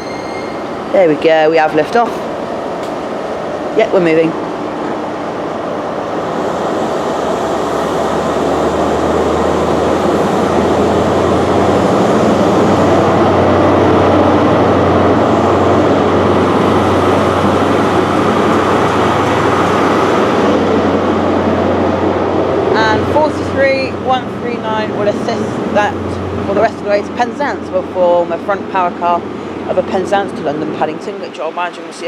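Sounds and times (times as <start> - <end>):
diesel train rumbling: 0.0 - 32.0.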